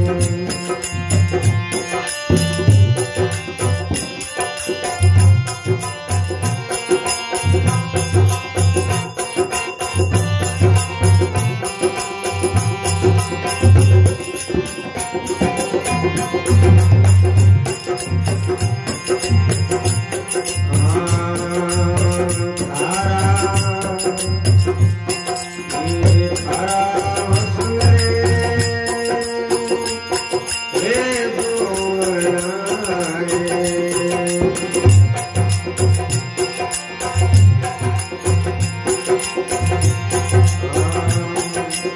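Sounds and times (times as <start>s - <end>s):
dholak drum rhythm: 0.0s - 41.9s
jingling percussion: 0.0s - 41.9s
reedy held melody: 0.0s - 41.9s.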